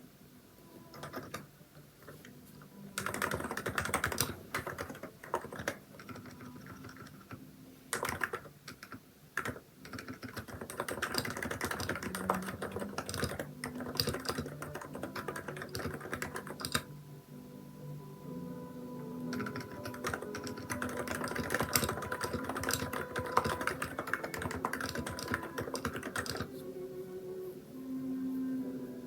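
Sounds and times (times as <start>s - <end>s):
keyboard typing: 0.8s - 16.9s, 19.2s - 26.6s.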